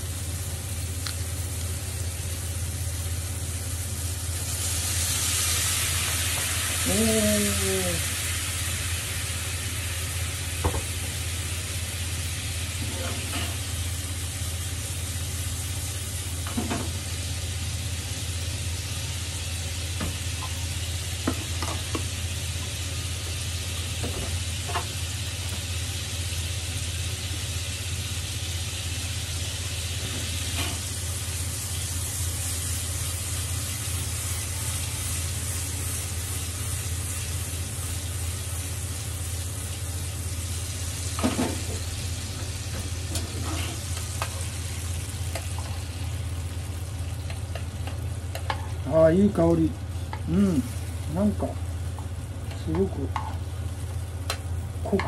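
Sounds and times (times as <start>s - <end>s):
fruit sizzling in a frying pan: 0.0s - 55.0s.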